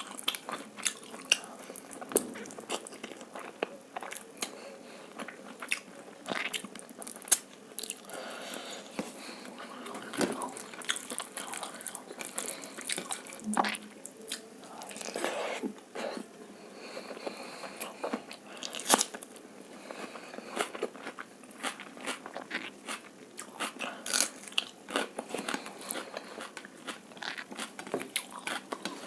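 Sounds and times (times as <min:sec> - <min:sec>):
chewing and crunching food: 0:00.0 - 0:15.4, 0:16.8 - 0:29.0.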